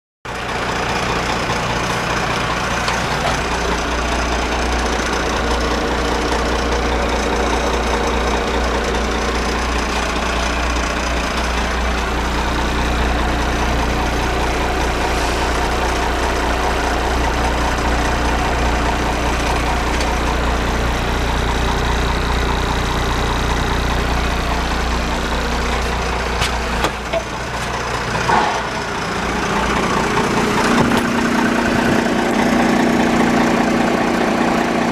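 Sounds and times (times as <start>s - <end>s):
diesel engine idling: 0.3s - 34.9s
engine knocks: 0.3s - 34.9s.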